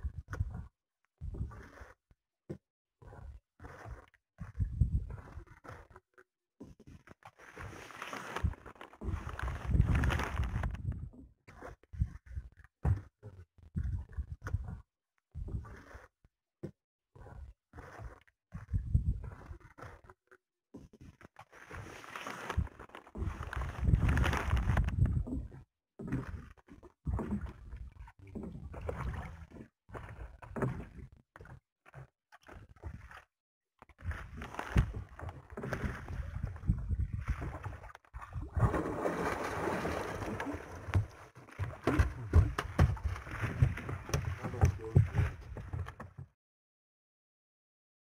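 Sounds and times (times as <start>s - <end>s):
water sloshing against hull: 0.0s - 46.4s.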